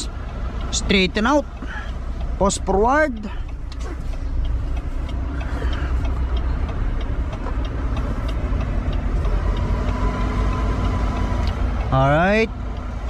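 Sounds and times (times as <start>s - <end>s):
diesel engine low rumble: 0.0s - 13.0s
light regular ticking: 0.0s - 13.0s.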